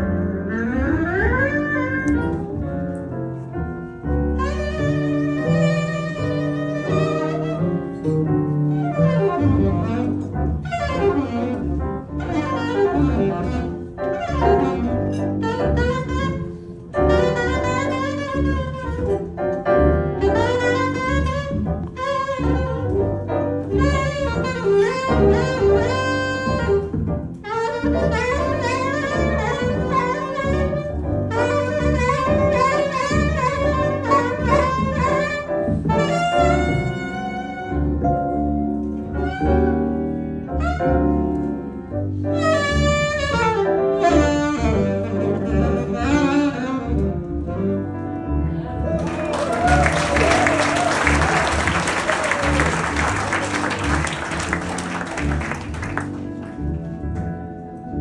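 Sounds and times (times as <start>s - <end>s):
saxophone playing: 0.0s - 57.7s
acoustic piano: 0.0s - 58.0s
upright double bass: 0.0s - 58.0s.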